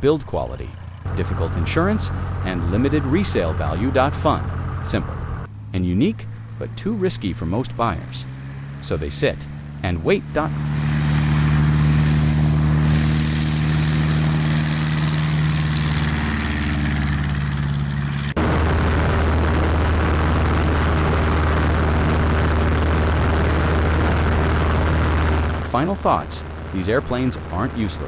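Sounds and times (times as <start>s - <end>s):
light aircraft engine droning: 0.0s - 28.0s.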